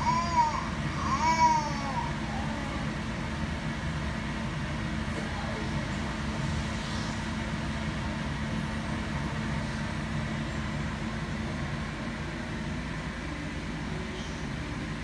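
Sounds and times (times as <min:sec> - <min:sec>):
fan humming and hissing: 0:00.0 - 0:15.0.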